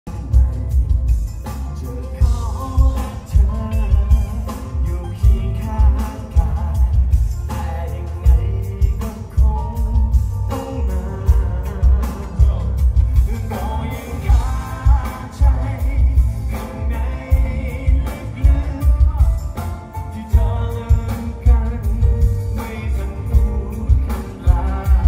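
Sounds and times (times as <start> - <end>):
drum and bass beat: 0.0 - 25.0
man singing into microphone: 0.1 - 25.0.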